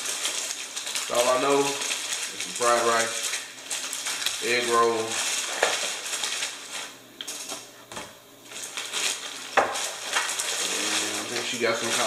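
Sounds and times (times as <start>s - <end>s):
plastic bag rustling: 0.0s - 7.8s, 8.4s - 12.0s.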